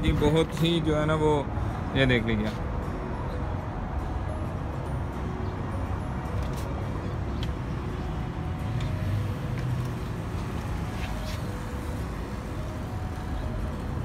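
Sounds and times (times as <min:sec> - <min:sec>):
urban street rumble: 0:00.0 - 0:14.0.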